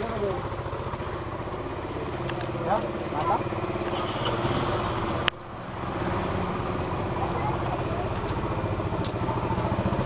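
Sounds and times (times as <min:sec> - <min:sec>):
lorry engine idling: 0:00.0 - 0:10.0.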